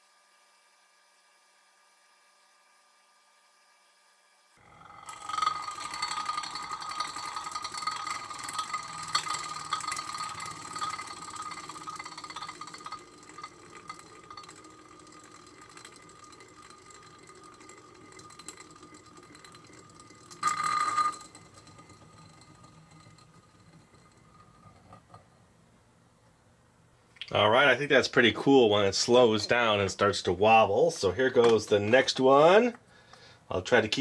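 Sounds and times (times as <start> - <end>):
spinning top whirring and rattling: 0.0 - 25.9, 27.3 - 32.7.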